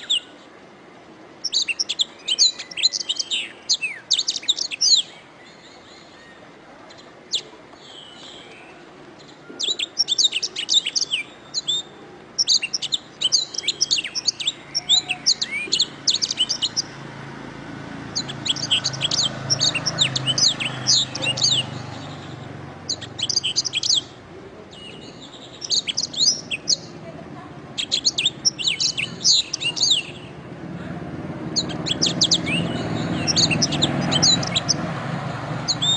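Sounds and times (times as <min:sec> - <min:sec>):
canary singing trills and chirps: 0:00.0 - 0:00.4, 0:01.4 - 0:27.0, 0:27.6 - 0:30.6, 0:31.4 - 0:35.9.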